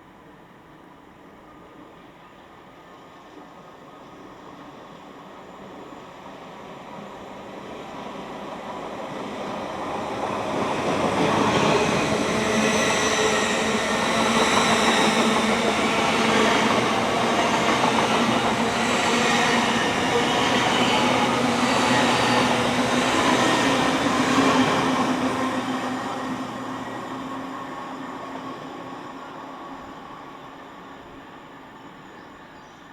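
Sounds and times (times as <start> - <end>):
passenger train passing: 0.1 - 32.9.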